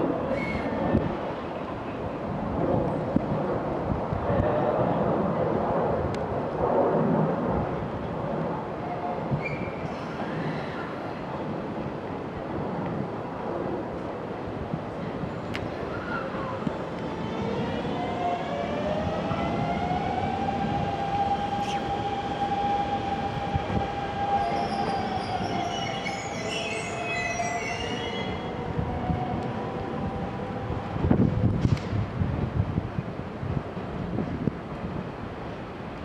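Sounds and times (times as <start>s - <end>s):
rail rumble: 0.0s - 36.0s.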